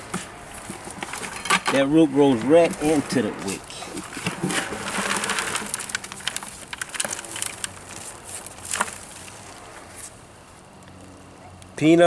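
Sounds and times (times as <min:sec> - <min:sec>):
dry plant stems crackling: 0:00.4 - 0:11.3.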